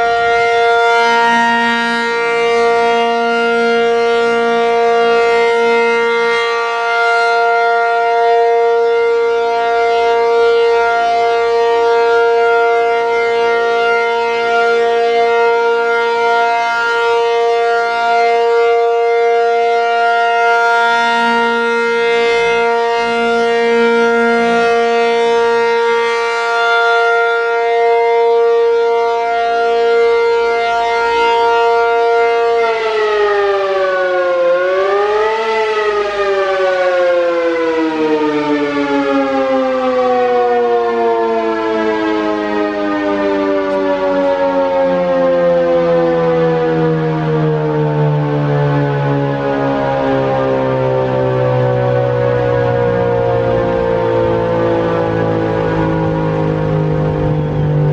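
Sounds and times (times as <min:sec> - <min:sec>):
outdoor warning siren: 0:00.0 - 0:57.9.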